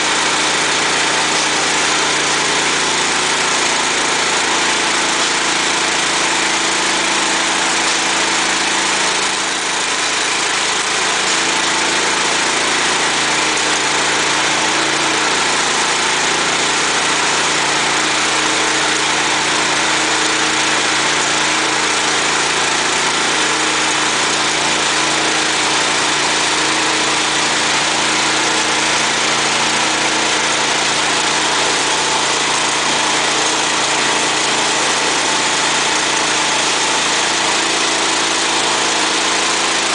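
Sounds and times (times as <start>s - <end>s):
petrol engine running steadily: 0.0s - 39.9s.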